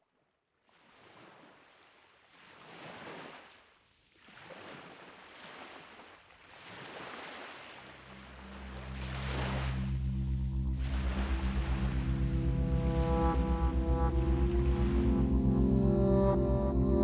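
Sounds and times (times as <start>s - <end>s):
ocean waves washing in: 0.9s - 17.0s.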